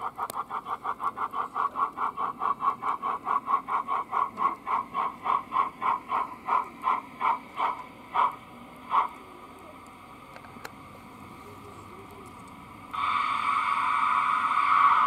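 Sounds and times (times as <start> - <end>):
model steam engine chuffing: 0.0 - 15.0.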